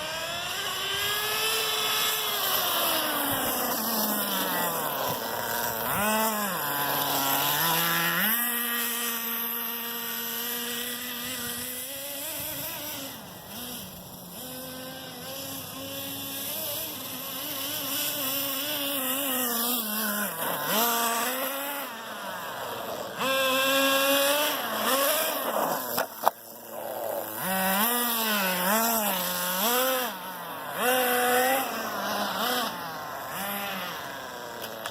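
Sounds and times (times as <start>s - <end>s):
small engine revving: 0.0s - 34.9s.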